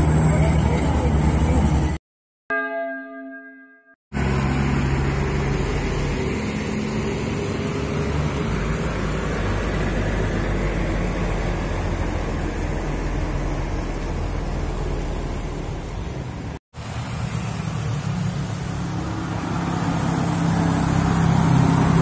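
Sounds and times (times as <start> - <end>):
bus engine pulling uphill: 0.0 - 2.0, 4.2 - 22.0
tyres on wet road: 4.2 - 22.0.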